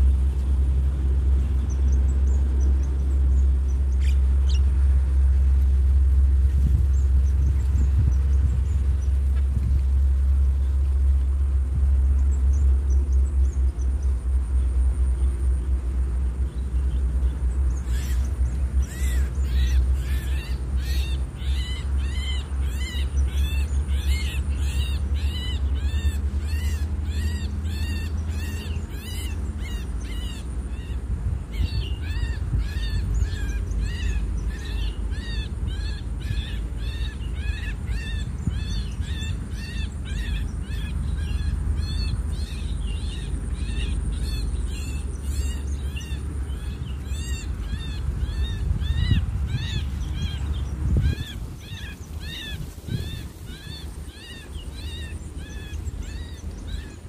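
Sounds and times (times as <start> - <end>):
birds chirping: 0.0 - 57.0
low rumble: 0.0 - 57.0.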